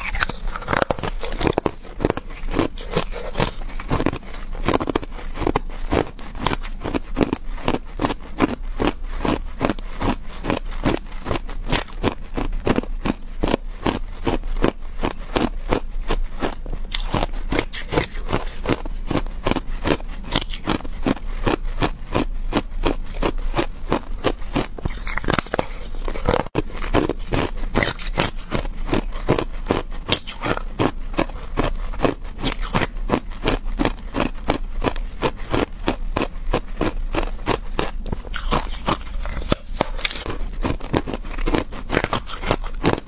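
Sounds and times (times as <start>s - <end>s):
person crunching ice: 0.0s - 43.0s.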